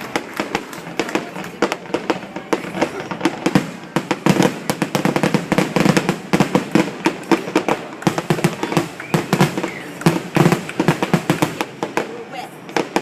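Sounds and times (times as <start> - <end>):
fireworks popping and cracking: 0.0 - 13.0.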